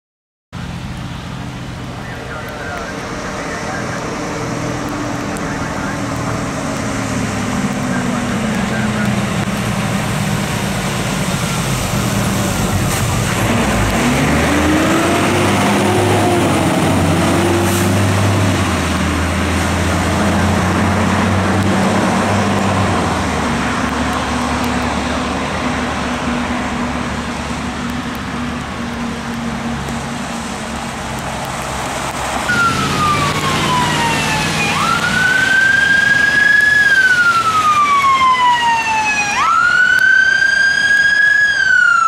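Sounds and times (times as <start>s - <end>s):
fire engine diesel engine: 0.6s - 42.0s.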